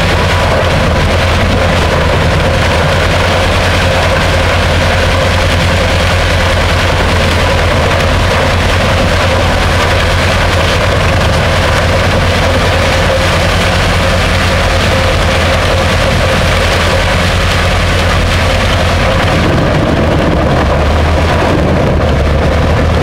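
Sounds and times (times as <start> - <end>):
wood chipper engine running: 0.0 - 23.0.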